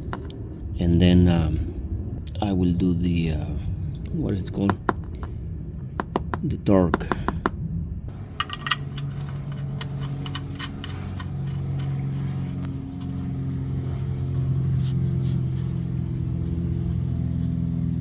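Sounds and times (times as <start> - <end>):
low engine-like hum: 0.0 - 18.0.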